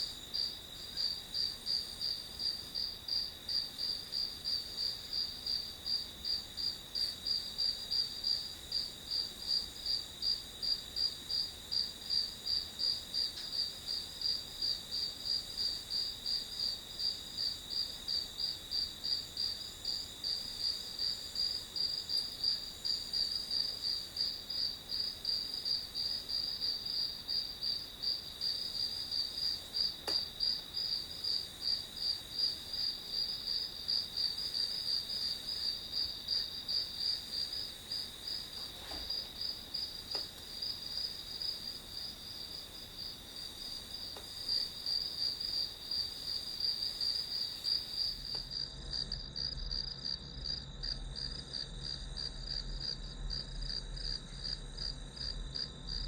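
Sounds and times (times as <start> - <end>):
high insect trill: 0.0 - 48.7
crickets chirping: 0.0 - 56.0.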